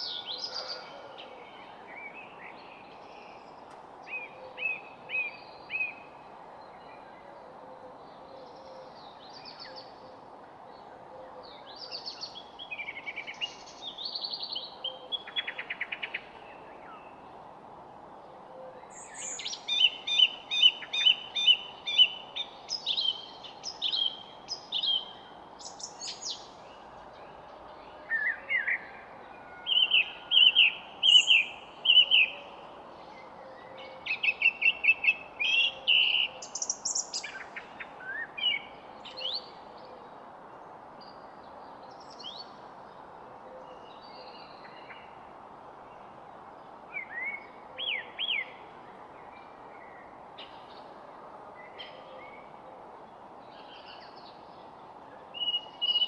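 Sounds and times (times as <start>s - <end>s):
background hiss: 0.0s - 56.0s
songbirds chirping and trilling: 0.0s - 56.0s.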